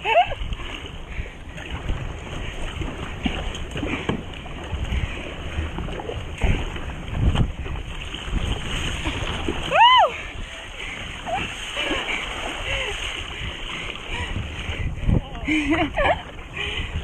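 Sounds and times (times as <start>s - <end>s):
water rushing and splashing: 0.0s - 17.0s
wind buffeting microphone: 0.0s - 17.0s.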